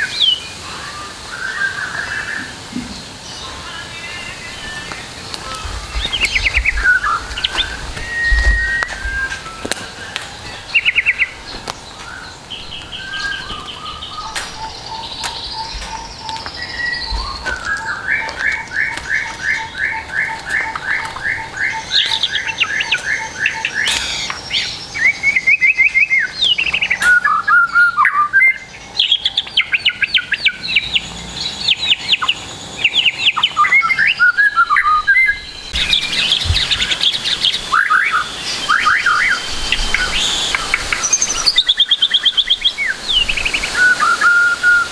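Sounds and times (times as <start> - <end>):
bird song with trills and whistles: 0.0 - 44.9.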